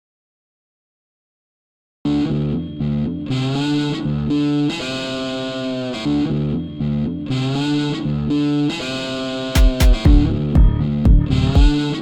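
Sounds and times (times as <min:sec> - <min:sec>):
distorted electric guitar riff: 0:02.1 - 0:12.0.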